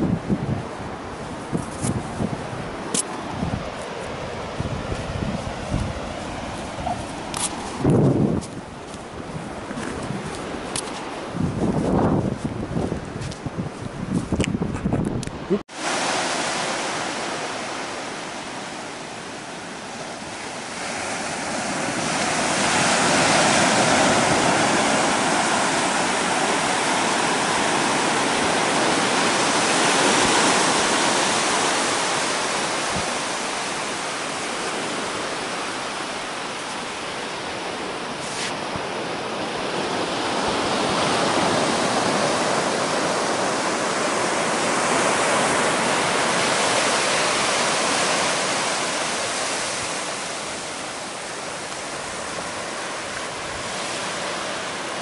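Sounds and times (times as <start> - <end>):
ocean surf on sandy beach: 0.0 - 55.0.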